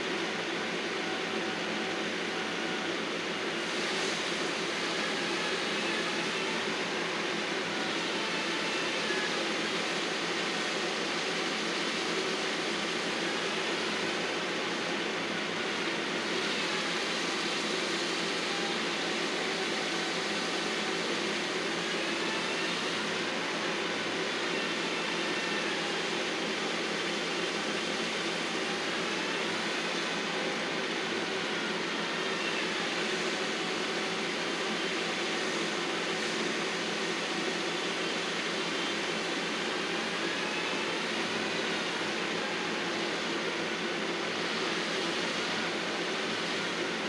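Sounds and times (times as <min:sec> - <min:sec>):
faint machinery whines: 0:00.0 - 0:47.0.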